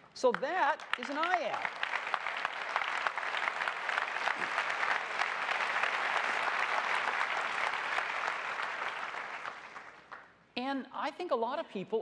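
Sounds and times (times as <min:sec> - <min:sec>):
large audience applauding: 0:00.0 - 0:10.3.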